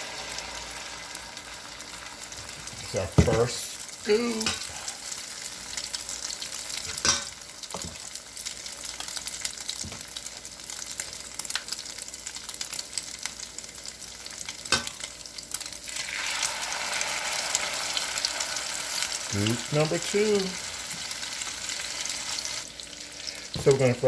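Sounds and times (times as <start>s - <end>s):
batter sizzling in hot oil: 0.0s - 24.0s.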